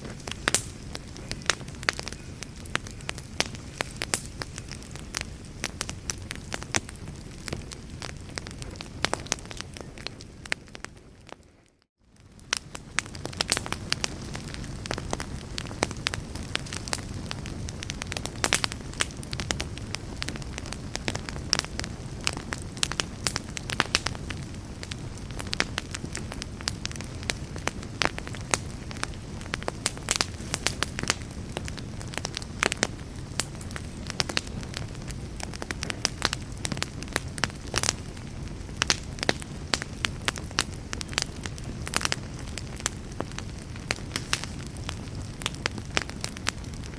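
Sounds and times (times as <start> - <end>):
campfire hissing: 0.0 - 11.4, 12.2 - 46.9
fire crackles and pops: 0.0 - 46.9.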